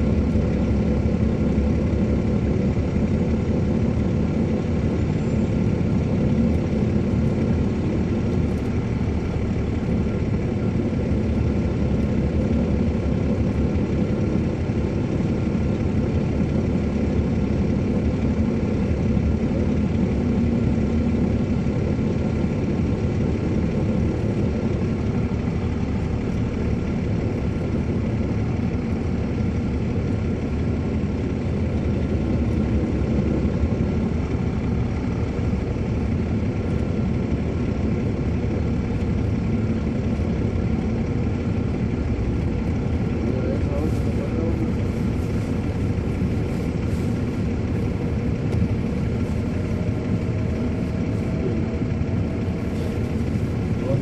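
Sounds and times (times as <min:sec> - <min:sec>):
diesel engine low drone: 0:00.0 - 0:54.0.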